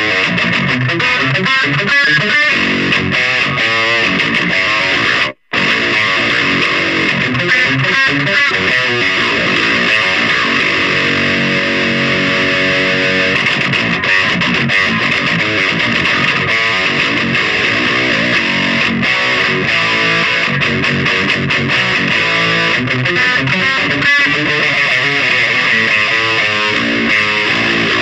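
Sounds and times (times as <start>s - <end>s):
distorted electric guitar riffing: 0.0s - 28.0s.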